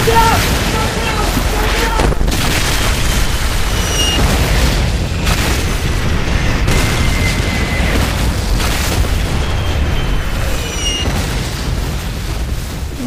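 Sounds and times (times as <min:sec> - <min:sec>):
loud booming and rumbling: 0:00.0 - 0:13.0.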